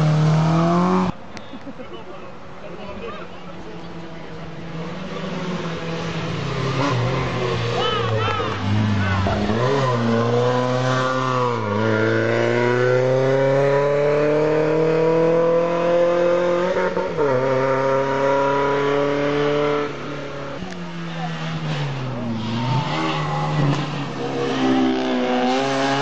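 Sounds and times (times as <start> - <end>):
race car engine accelerating: 4.6 - 26.0.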